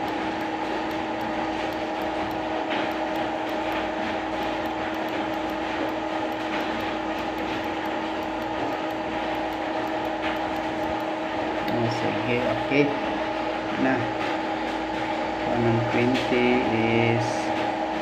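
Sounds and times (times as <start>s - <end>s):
lathe motor hum with tones: 0.0s - 18.0s.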